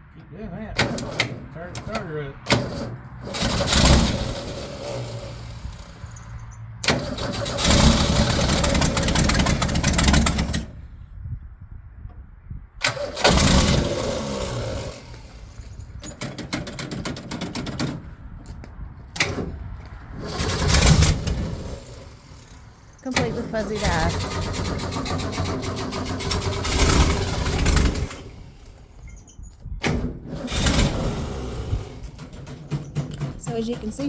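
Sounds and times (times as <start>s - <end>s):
car engine cranking: 0.1s - 11.0s, 12.8s - 34.0s.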